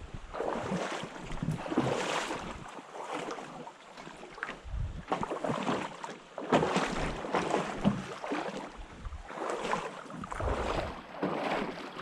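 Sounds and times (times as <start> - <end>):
paddle strokes splashing water: 0.0 - 12.0.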